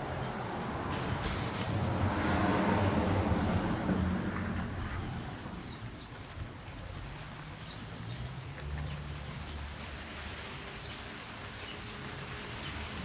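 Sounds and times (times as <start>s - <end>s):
wind and rain: 0.0s - 13.0s.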